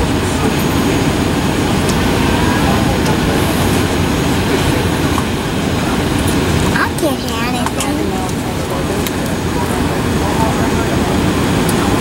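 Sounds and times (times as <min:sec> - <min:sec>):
jet engines idling in cabin: 0:00.0 - 0:12.0.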